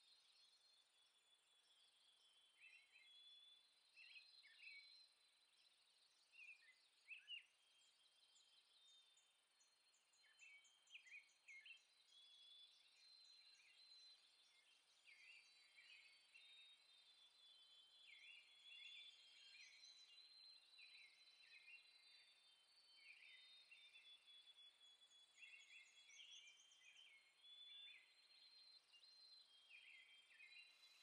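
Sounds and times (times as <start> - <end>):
faint birdsong chirping: 0.0 - 31.0.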